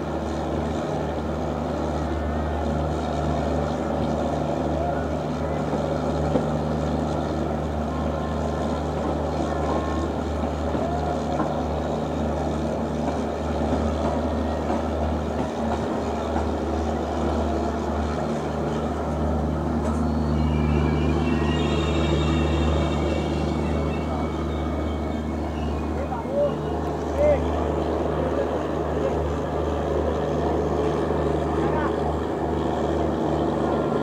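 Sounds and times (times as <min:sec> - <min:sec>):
electric locomotive whine: 0:00.0 - 0:34.0
train coaches rumbling past: 0:00.0 - 0:34.0.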